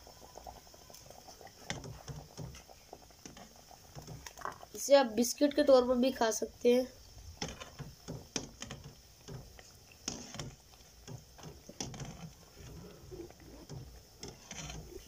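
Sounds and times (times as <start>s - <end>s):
dough sizzling in oil: 0.0s - 15.0s.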